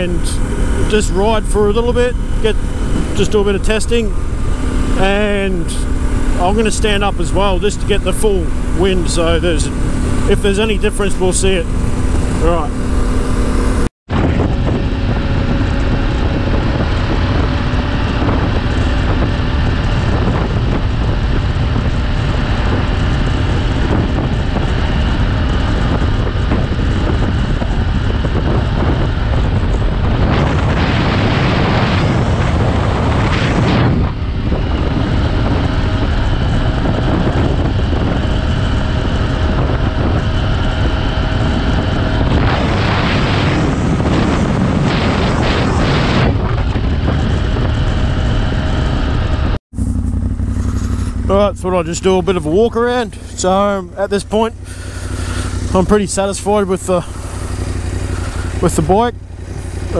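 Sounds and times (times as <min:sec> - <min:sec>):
motorcycle engine: 0:00.0 - 0:59.9
wind buffeting microphone: 0:00.0 - 0:59.9.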